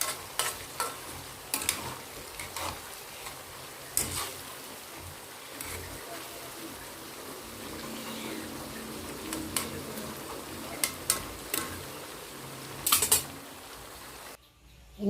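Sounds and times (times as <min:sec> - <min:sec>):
food sizzling in hot oil: 0:00.0 - 0:14.4.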